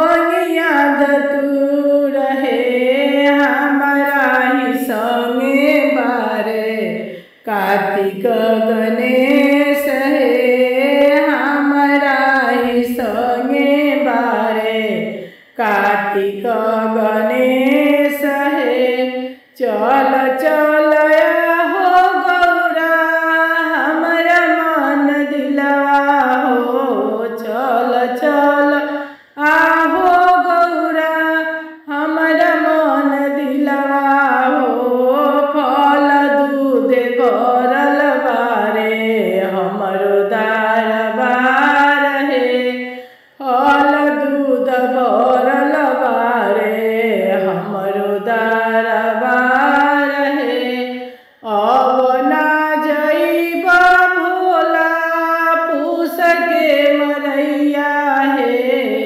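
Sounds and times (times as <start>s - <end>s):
woman singing unaccompanied: 0.0s - 59.0s.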